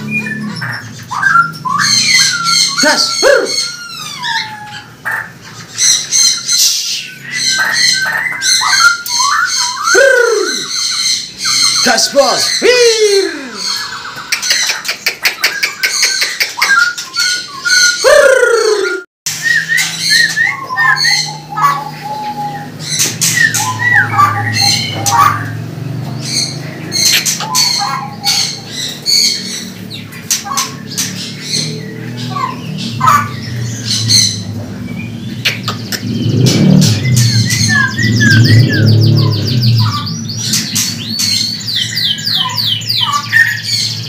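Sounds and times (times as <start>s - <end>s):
songbirds whistling and chirping: 0.0s - 44.0s.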